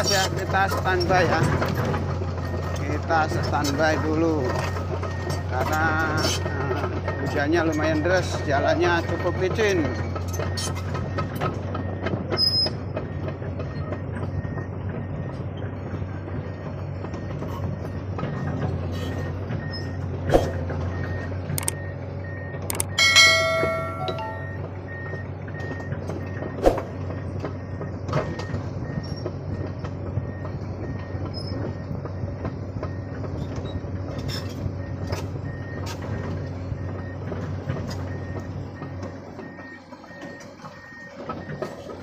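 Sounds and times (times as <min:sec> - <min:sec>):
diesel truck engines humming: 0:00.0 - 0:42.0.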